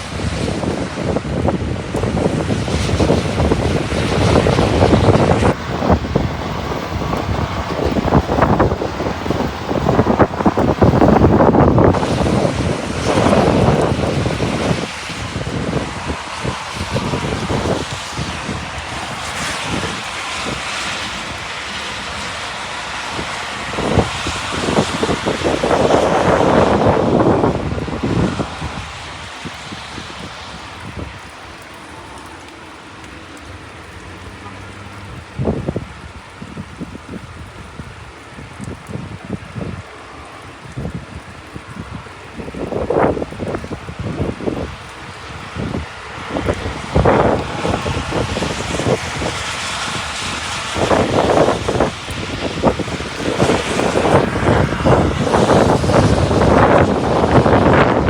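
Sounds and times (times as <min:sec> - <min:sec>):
rain: 0:00.0 - 0:58.0
storm wind buffeting microphone: 0:00.0 - 0:58.0.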